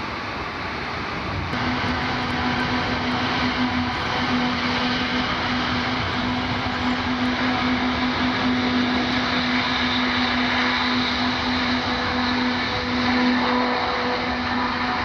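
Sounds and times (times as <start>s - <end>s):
constant hum: 0.0s - 15.0s
jet engines at takeoff: 0.0s - 15.0s.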